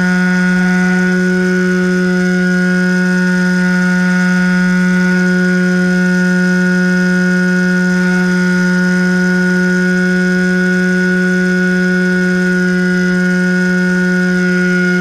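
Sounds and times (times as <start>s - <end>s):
electric motor and propeller droning: 0.0s - 15.0s.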